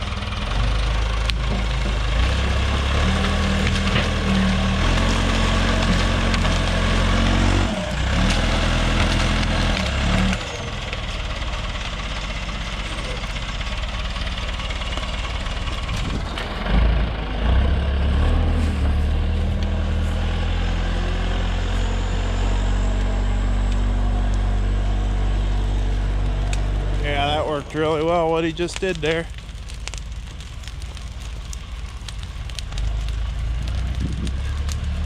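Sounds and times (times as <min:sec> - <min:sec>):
diesel engine working under load: 0:00.0 - 0:35.0.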